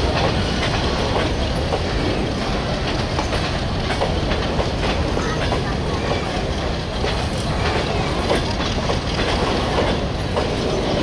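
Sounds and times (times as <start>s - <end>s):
train wheels rumbling on rails: 0.0s - 11.0s
wheels clattering over rail joints: 0.0s - 11.0s.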